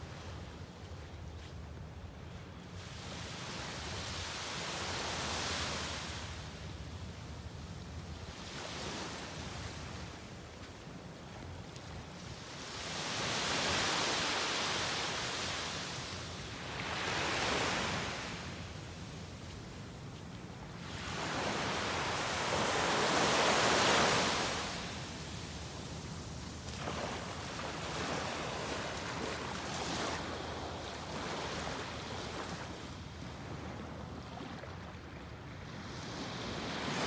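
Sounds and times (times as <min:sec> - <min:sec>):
small waves breaking on sand: 0:02.5 - 0:06.5, 0:08.2 - 0:18.6, 0:20.8 - 0:37.0.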